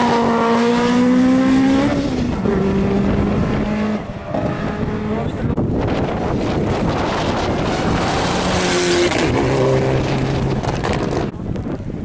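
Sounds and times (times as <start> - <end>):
car engine accelerating hard: 0.0 - 11.3.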